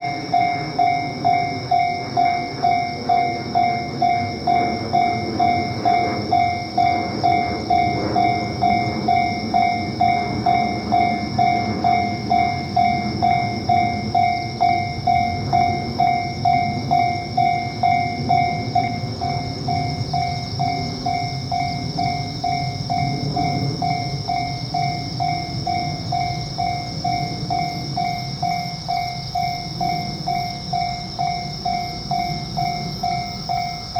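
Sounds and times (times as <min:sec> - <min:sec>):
train running on rails: 0:00.0 - 0:33.9.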